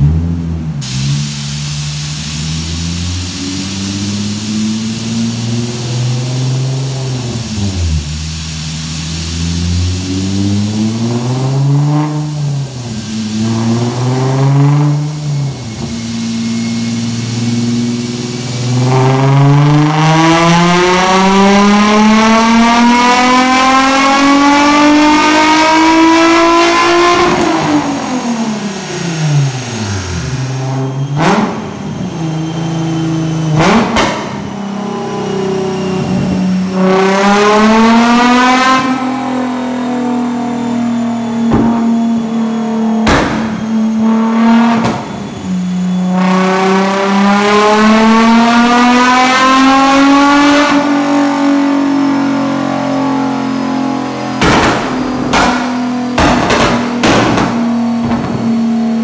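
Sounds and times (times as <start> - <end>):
car engine revving on dyno: 0.0 - 59.0.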